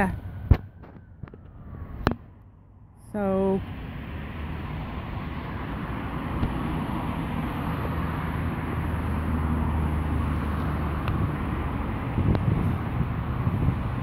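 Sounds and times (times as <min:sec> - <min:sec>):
low engine hum: 0:00.0 - 0:14.0
outdoor background noise: 0:00.0 - 0:14.0.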